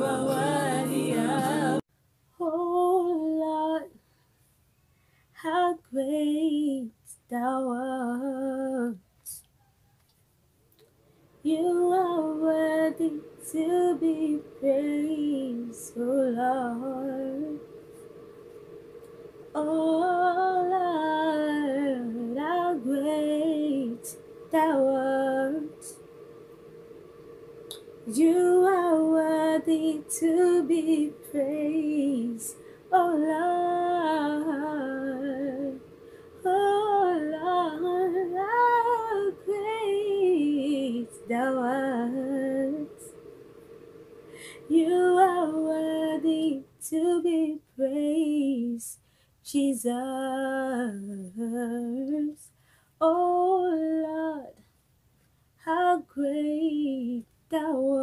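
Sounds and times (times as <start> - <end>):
woman singing: 0.0 - 1.8, 2.4 - 4.0, 5.4 - 9.4, 11.4 - 17.6, 19.5 - 26.0, 28.0 - 35.8, 36.4 - 43.1, 44.4 - 54.6, 55.6 - 58.0.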